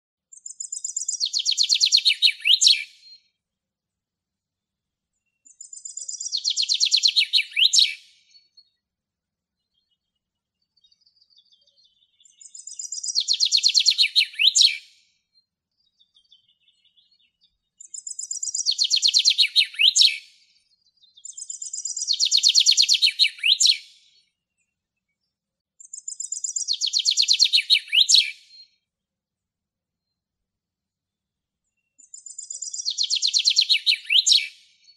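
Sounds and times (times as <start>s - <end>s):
chaffinch singing: 0.3s - 3.3s, 5.2s - 8.8s, 9.6s - 14.8s, 15.7s - 28.8s, 31.7s - 34.9s
faint soft bird notes: 0.3s - 34.9s.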